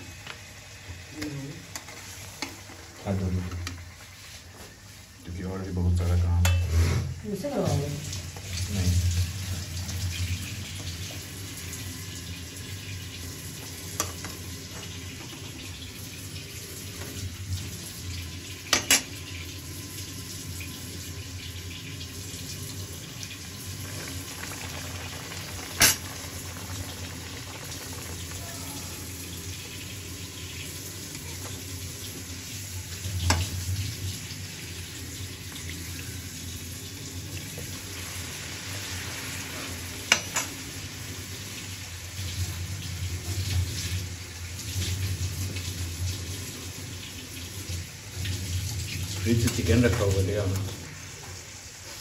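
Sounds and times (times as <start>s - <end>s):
hot oil sizzling: 0.0s - 52.0s.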